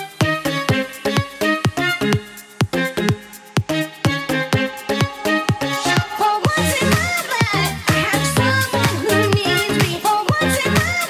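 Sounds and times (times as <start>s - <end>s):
music with quick beat: 0.0s - 11.0s.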